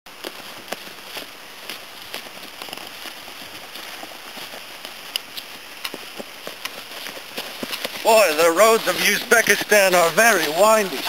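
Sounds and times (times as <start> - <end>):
heavy rain falling: 0.8 - 11.0.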